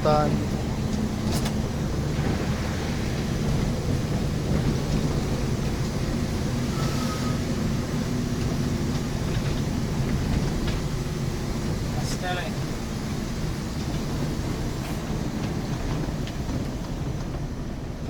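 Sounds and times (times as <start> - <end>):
bus engine drone: 0.0 - 18.0
rain: 0.0 - 18.0
tyres hissing on wet road: 0.0 - 18.0.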